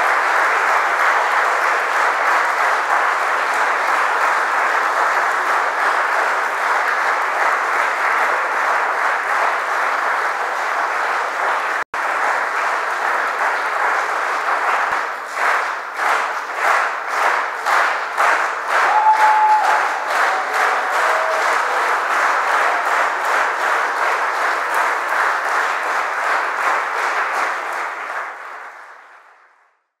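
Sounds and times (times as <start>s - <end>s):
audience applauding: 0.0s - 29.6s.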